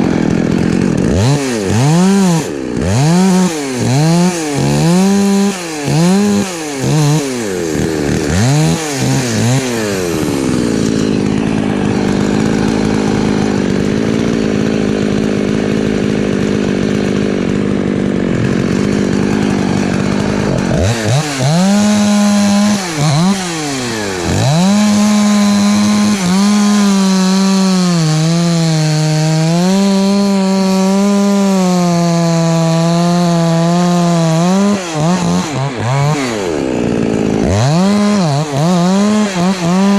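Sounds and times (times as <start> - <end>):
chainsaw cutting wood: 0.0 - 39.9
chainsaw revving: 0.0 - 39.9.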